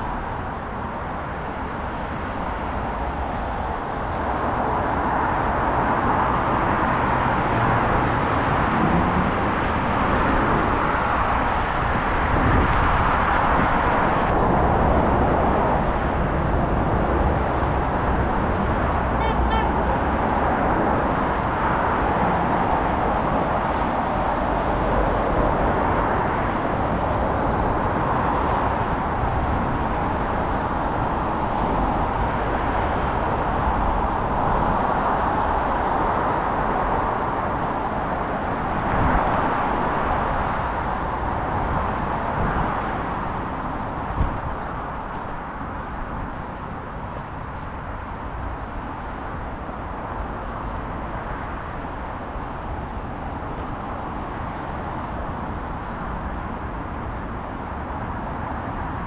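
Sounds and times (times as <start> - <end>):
road traffic rushing: 0.0 - 59.0.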